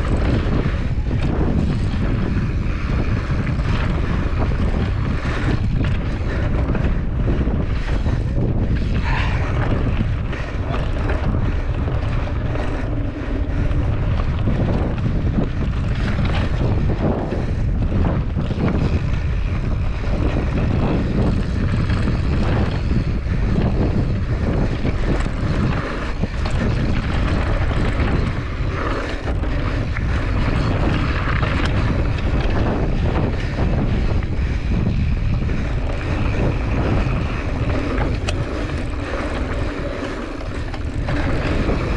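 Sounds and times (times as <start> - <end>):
bike rattles and knocks: 0.0 - 41.9
wind buffeting microphone: 0.0 - 41.9.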